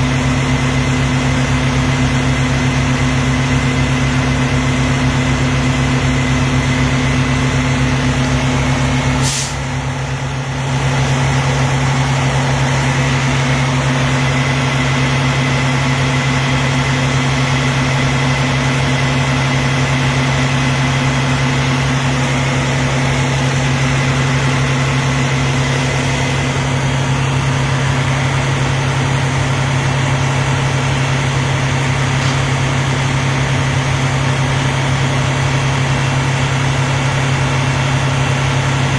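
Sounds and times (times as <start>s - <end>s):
truck diesel engine idling: 0.0s - 38.9s.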